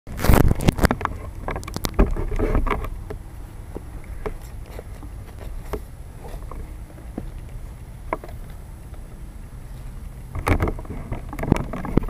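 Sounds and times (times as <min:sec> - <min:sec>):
wind rumble on microphone: 0:00.1 - 0:12.0.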